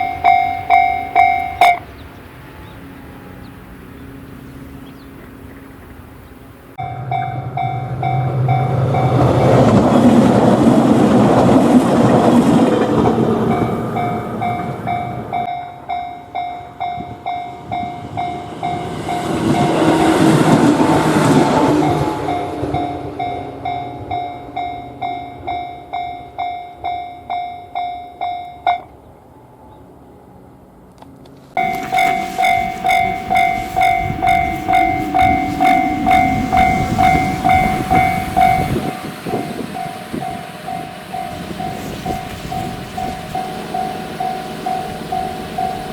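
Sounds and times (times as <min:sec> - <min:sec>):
level crossing warning bell ringing: 0:00.0 - 0:04.4, 0:06.8 - 0:10.3, 0:12.8 - 0:28.9, 0:31.6 - 0:45.9
train passing: 0:00.0 - 0:45.9.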